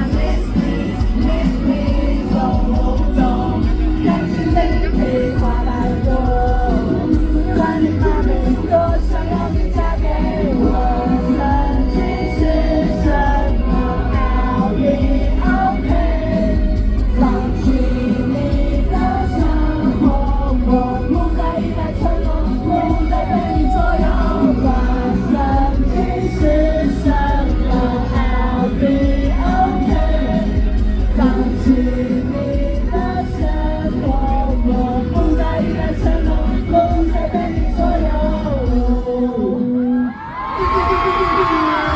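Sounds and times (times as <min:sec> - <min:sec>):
live pop-rock band: 0:00.0 - 0:41.9
person singing: 0:00.0 - 0:41.9.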